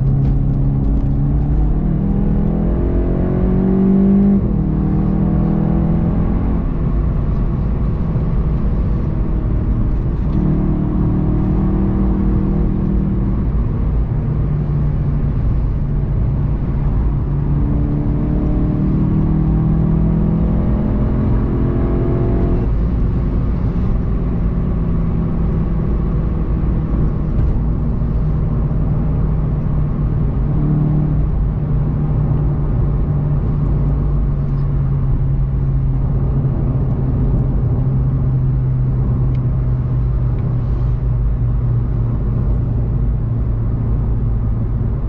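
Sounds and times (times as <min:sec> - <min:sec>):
car engine running at speed: 0:00.0 - 0:45.0
road noise: 0:00.0 - 0:45.0.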